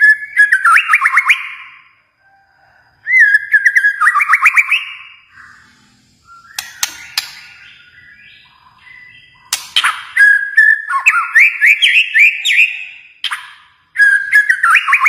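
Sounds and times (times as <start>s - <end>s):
bird singing whistled notes: 0.0s - 2.0s, 3.0s - 15.0s.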